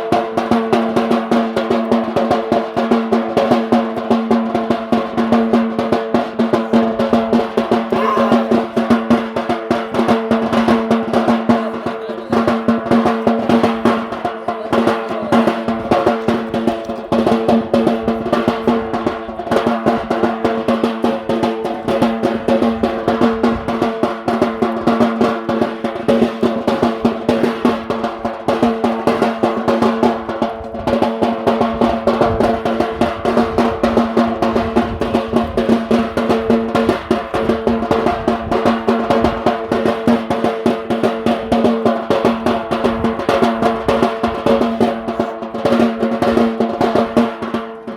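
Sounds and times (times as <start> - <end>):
rapid dense drumming: 0.1 - 47.9.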